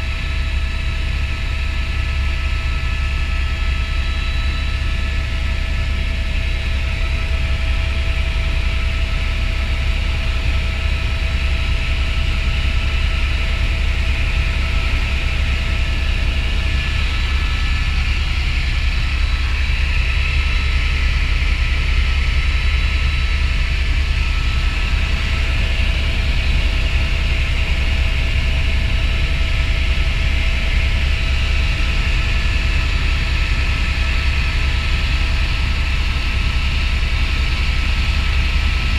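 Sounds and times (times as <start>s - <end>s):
helicopter rotor rumble: 0.0s - 38.9s
turbine whine: 0.0s - 38.9s.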